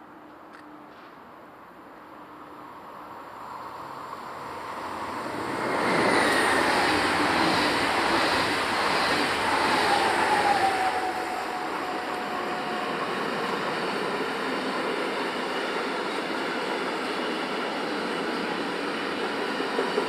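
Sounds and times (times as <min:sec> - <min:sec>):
electric train passing: 0:00.1 - 0:20.0.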